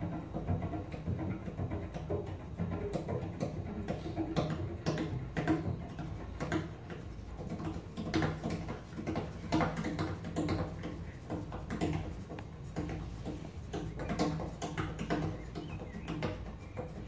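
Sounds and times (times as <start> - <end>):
percussive bow clicks and taps: 0.4 - 17.0.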